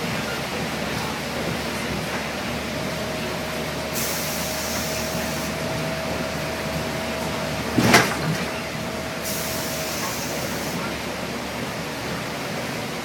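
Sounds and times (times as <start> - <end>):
bus engine and tyres rumbling: 0.0 - 13.0
rain: 0.0 - 13.0.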